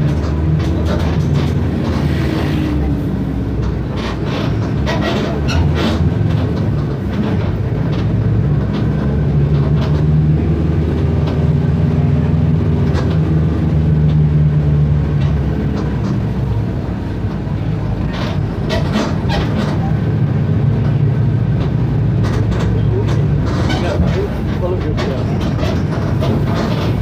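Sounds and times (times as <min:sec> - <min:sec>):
bus body rattles: 0:00.0 - 0:27.0
bus diesel engine running: 0:00.0 - 0:27.0.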